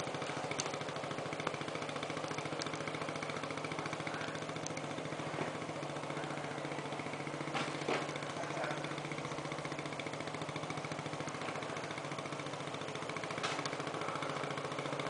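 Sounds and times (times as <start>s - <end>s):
small motorcycle engine puttering: 0.0s - 15.0s.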